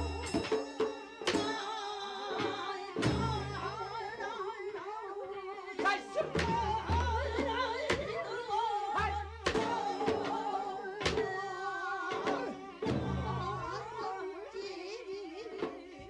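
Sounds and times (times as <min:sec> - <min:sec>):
person singing with wavering vibrato: 0:01.2 - 0:15.8.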